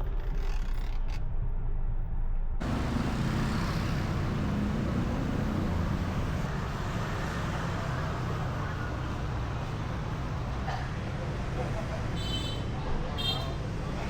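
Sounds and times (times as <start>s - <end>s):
rumble of passing vehicles: 0.2s - 14.0s.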